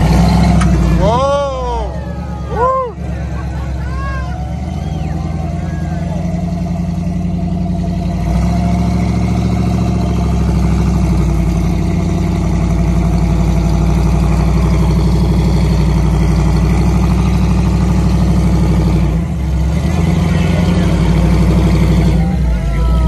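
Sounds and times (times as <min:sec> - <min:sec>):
truck engine running under load: 0:00.0 - 0:23.0.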